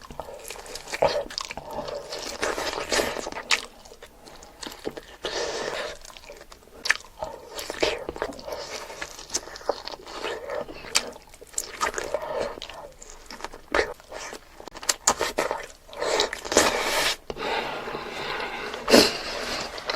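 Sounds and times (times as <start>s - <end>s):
person eating and chewing: 0.0s - 19.9s.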